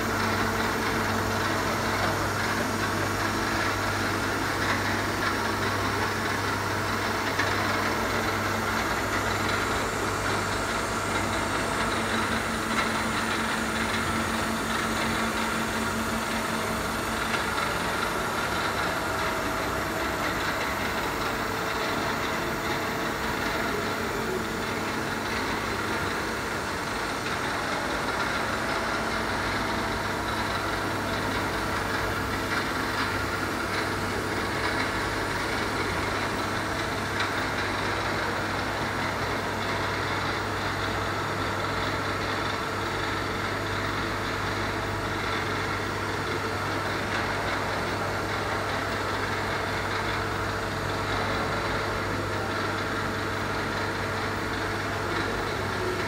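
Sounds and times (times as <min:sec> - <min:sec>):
milling machine humming: 0:00.0 - 0:56.0.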